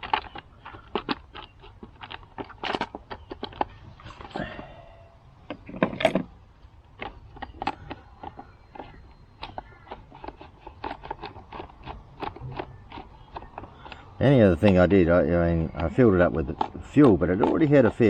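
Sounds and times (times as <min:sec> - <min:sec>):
hands handling chainsaw parts: 0:00.0 - 0:04.8, 0:05.4 - 0:15.1.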